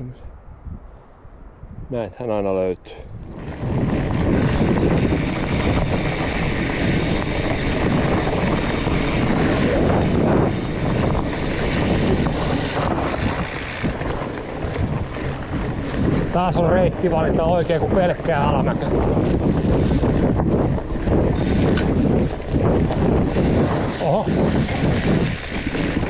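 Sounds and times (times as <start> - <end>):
wind on microphone: 0.0 - 26.0
bike tyres rolling on dirt: 3.2 - 26.0.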